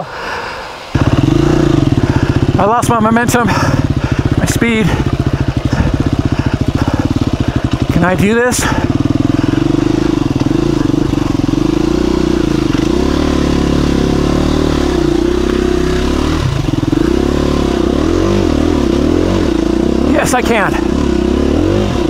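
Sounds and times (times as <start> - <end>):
dirt bike engine revving: 0.9 - 22.0.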